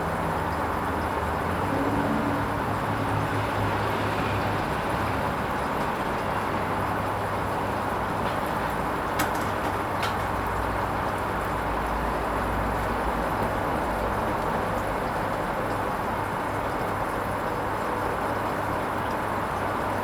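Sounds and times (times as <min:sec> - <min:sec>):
washing machine hum: 0:00.0 - 0:20.0.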